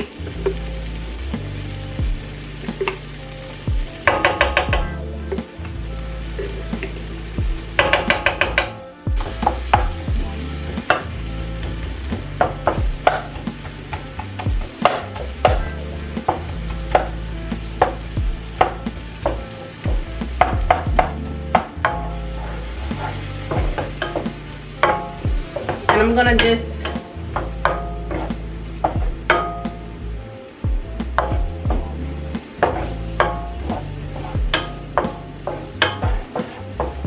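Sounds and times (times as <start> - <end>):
onions frying in butter: 0.0 - 37.0.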